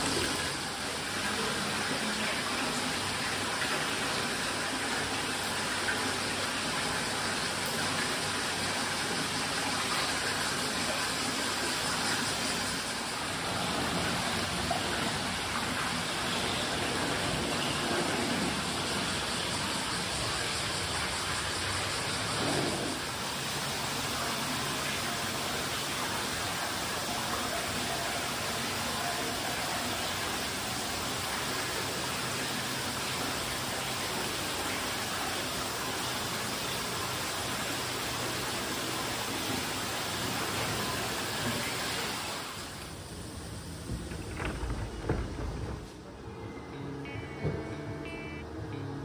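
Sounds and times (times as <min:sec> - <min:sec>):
water splashing into bathtub: 0:00.0 - 0:46.0.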